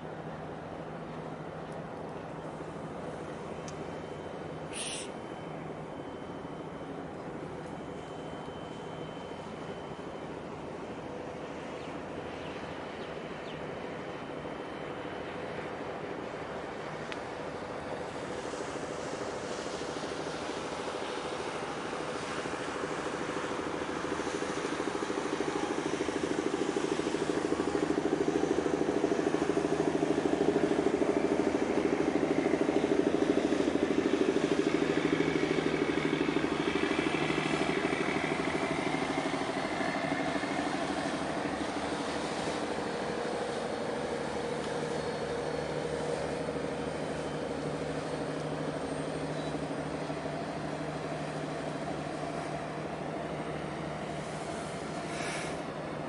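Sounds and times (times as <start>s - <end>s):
ship engine hum: 0.0s - 56.0s.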